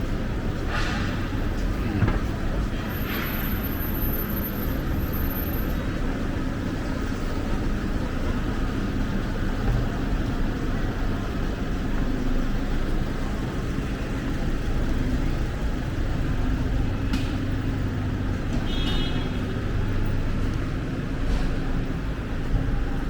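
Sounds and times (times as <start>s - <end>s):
city road traffic: 0.0s - 23.0s
low engine hum: 0.0s - 23.0s.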